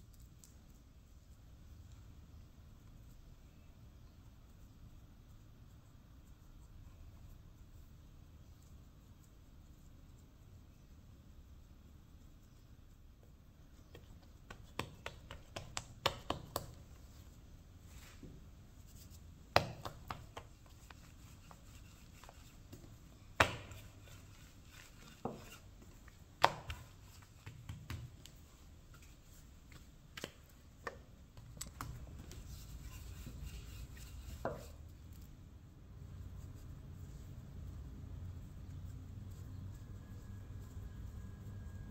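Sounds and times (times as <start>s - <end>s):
hands rubbing floured dough: 0.0s - 41.9s.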